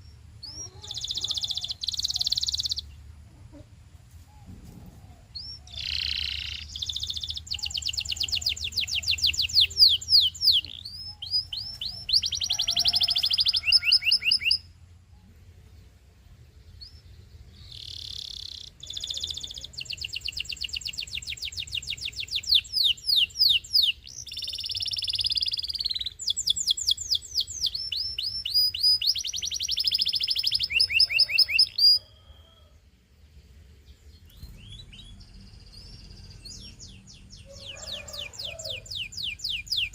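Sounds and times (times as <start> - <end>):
canary singing trills: 0.0 - 3.7, 4.4 - 15.4, 16.4 - 32.7, 33.8 - 39.9.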